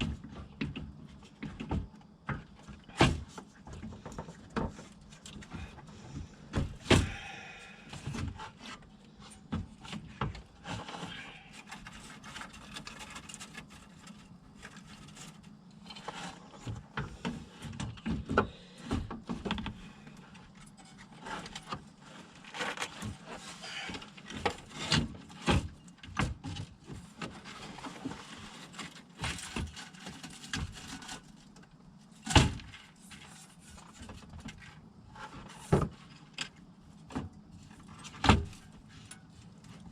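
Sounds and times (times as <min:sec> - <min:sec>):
car parts knocking and scraping: 0:00.0 - 0:39.9.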